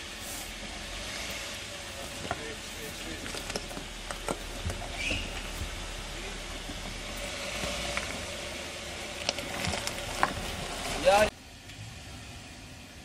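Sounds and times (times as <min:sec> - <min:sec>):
faint engine rumble: 0:00.0 - 0:13.0
steady hiss: 0:00.0 - 0:13.0.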